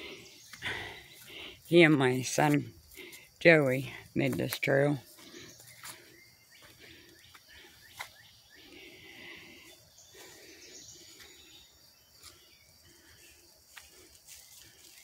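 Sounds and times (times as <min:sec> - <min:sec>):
footsteps on dirt trail: 0:00.0 - 0:15.0.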